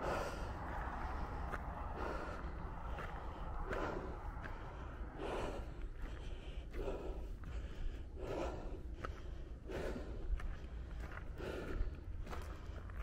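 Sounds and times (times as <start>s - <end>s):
person breathing hard: 0.0s - 13.0s.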